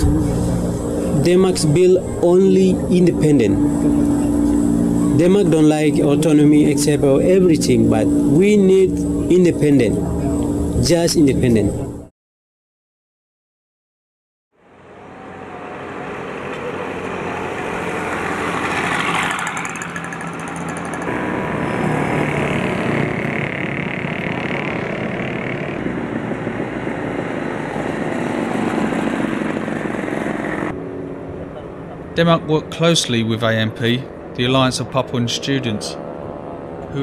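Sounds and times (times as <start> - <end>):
road traffic passing: 0.0 - 12.1, 14.6 - 37.0.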